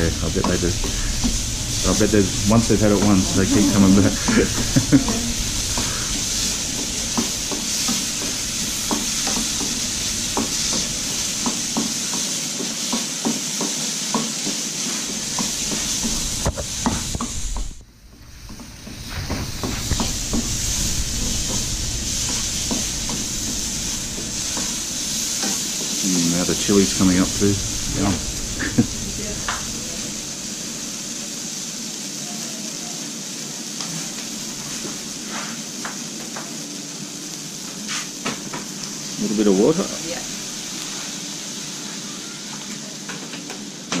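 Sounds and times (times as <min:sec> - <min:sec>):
paste sizzling in frying pan: 0:00.0 - 0:43.9.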